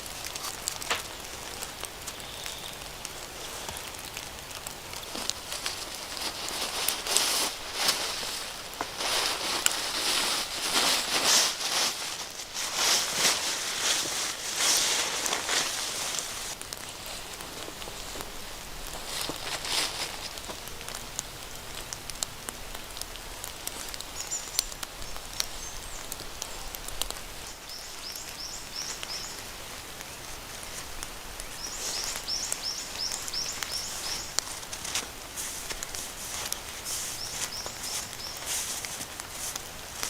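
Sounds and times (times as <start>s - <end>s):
crackles and sharp clicks: 0.0s - 40.0s.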